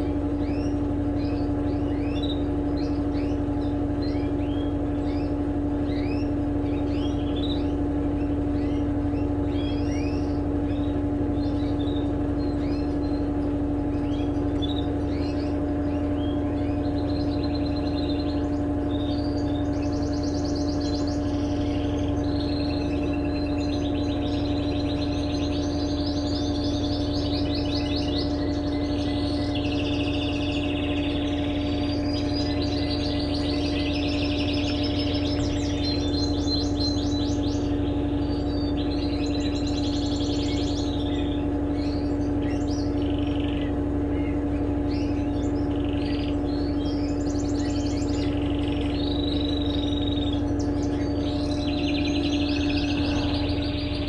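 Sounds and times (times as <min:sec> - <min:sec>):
birds chirping: 0:00.0 - 0:54.0
washing machine spinning: 0:00.0 - 0:54.0.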